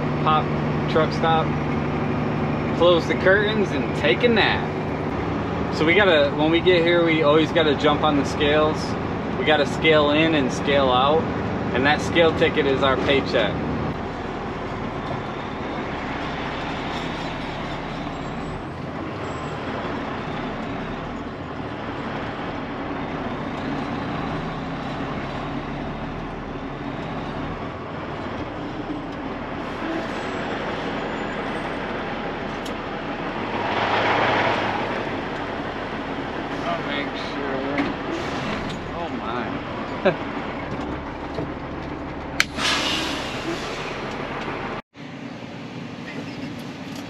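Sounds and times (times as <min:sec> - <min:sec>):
truck engine and road noise: 0:00.0 - 0:47.0.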